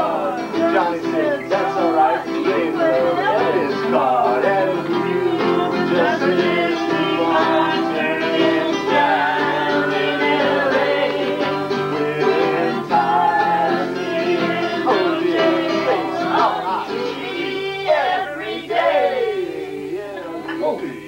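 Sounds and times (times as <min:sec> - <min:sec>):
acoustic guitars: 0:00.0 - 0:21.0
person singing: 0:00.0 - 0:21.0.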